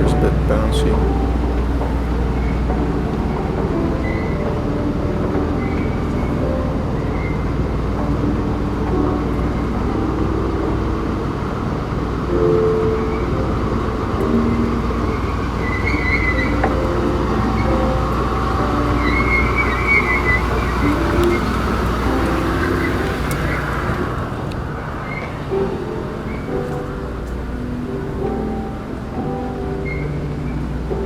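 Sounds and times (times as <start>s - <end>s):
escalator rumble: 0.0s - 31.0s.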